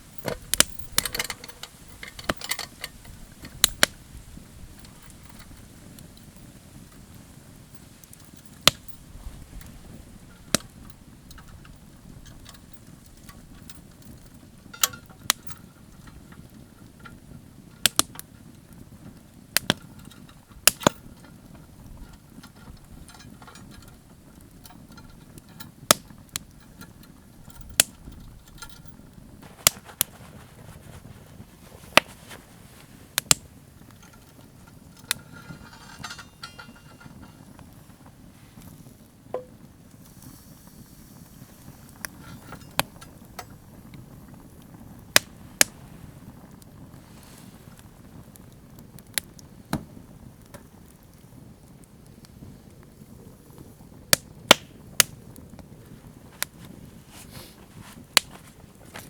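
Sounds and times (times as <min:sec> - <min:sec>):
campfire crackling and popping: 0:00.0 - 0:59.0
low rumble of burning fire: 0:00.0 - 0:59.0.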